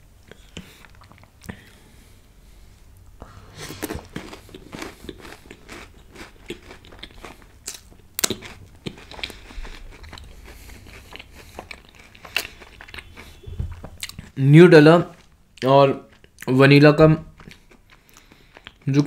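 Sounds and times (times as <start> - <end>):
chewing crunchy food: 0.3 - 1.8, 3.5 - 14.4, 15.1 - 16.6, 17.3 - 19.0.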